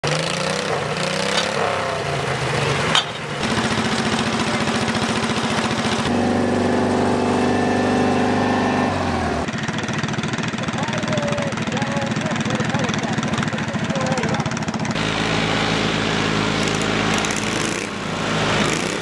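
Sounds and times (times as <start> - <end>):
tractor engines running: 0.0 - 19.0.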